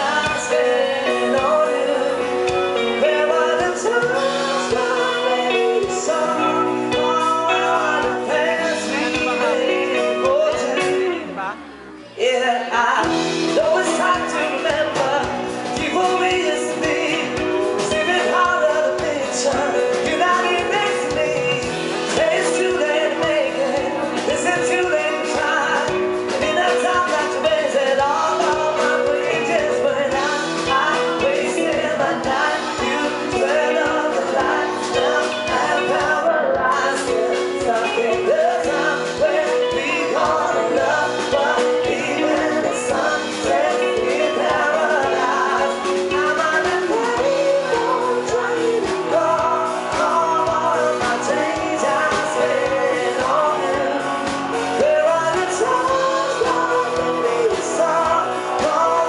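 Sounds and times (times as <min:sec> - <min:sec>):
pop music with singing: 0:00.0 - 0:59.0.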